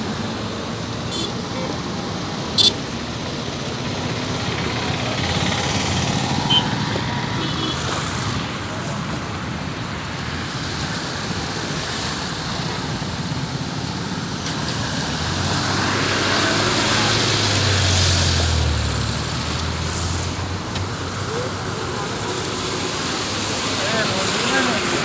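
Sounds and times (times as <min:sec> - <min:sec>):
road traffic rush: 0:00.0 - 0:25.0.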